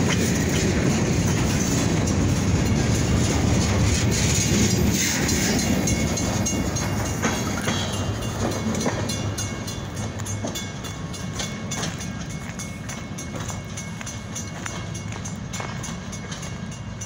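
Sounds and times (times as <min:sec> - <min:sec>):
freight train rumbling: 0:00.0 - 0:17.0
wheels clicking on rails: 0:00.0 - 0:17.0.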